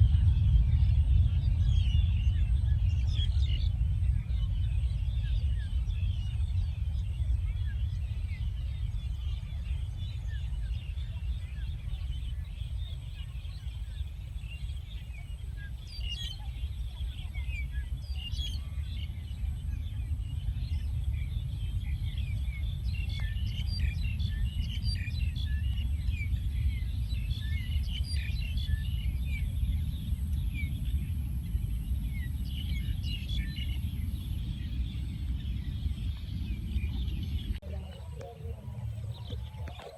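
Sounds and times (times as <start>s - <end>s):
low rumble: 0.0s - 39.9s
small birds chirping: 0.0s - 39.9s.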